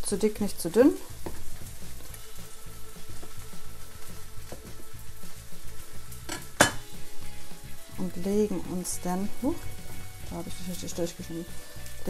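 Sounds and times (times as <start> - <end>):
crackling sizzle-like noise: 0.0 - 12.0.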